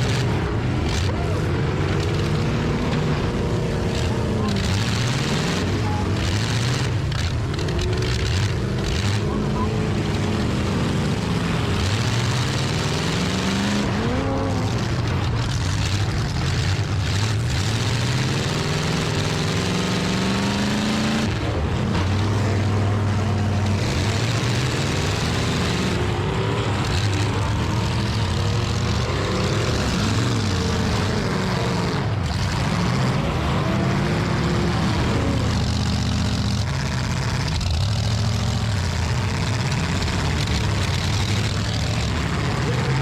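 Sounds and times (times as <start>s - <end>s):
car engines revving: 0.0s - 43.0s.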